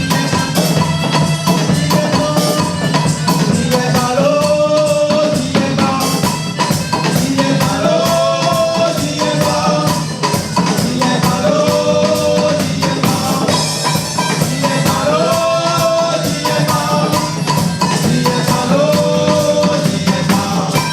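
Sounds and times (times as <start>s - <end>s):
music with percussion beat: 0.0s - 20.9s.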